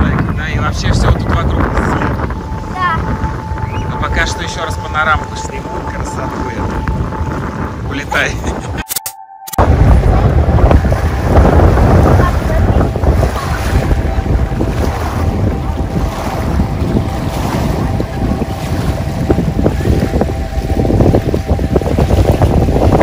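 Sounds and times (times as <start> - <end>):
wind buffeting microphone: 0.0 - 8.8, 9.6 - 23.0.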